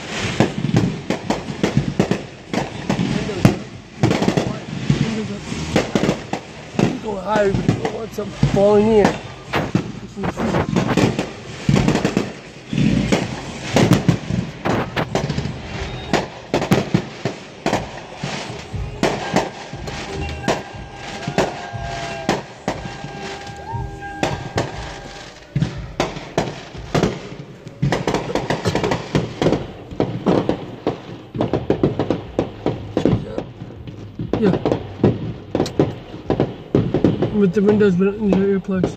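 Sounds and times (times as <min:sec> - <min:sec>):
fireworks bursts and crackles: 0:00.0 - 0:38.9.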